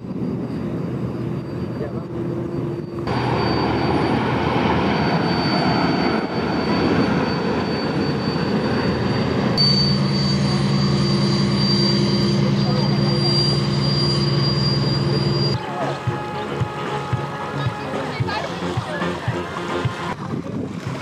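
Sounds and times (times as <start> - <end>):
faint high whine: 0.0 - 17.1
low hum: 0.0 - 17.6
engine-like drone: 0.0 - 21.0
rushing noise: 0.0 - 21.0.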